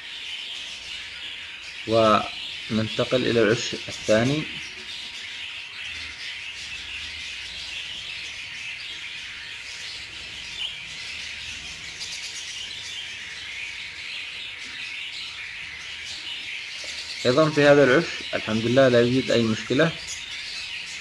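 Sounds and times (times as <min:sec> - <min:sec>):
budgerigars chattering and chirping: 0:00.0 - 0:21.0.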